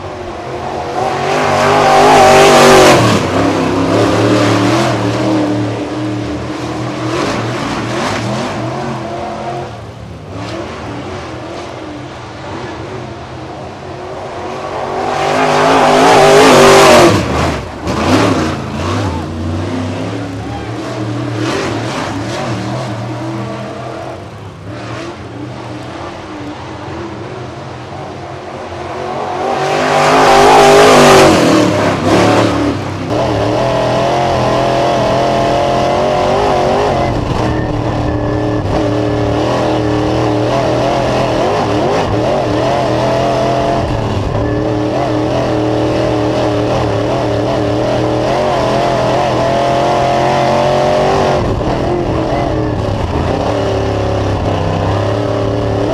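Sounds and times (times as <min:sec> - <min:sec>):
race car engine: 0:00.0 - 0:55.9.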